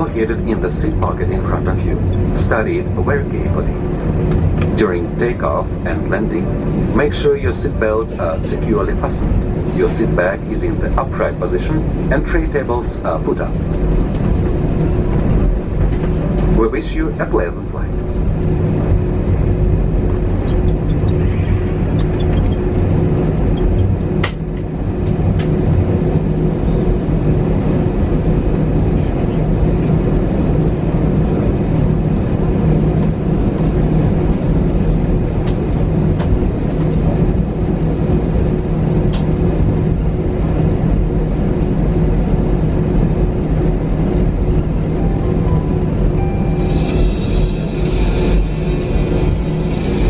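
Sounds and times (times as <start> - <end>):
aircraft cabin engine hum: 0.0 - 50.0.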